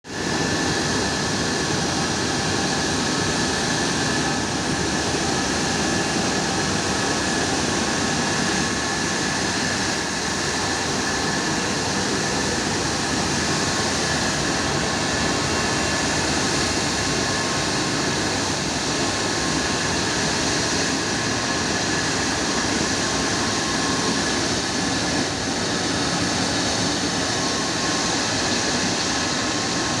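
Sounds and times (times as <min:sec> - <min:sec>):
jet engines roaring with whine: 0:00.0 - 0:30.0.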